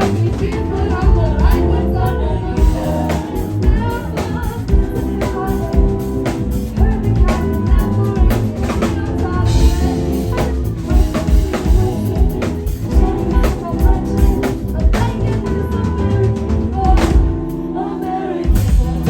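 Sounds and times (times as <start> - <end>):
drum kit beat: 0.0 - 19.0
live band music: 0.0 - 19.0.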